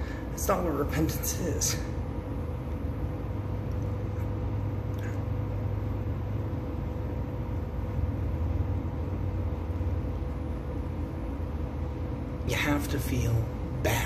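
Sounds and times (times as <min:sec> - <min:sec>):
constant hum: 0:00.0 - 0:14.0
low mechanical rumble: 0:00.0 - 0:14.0.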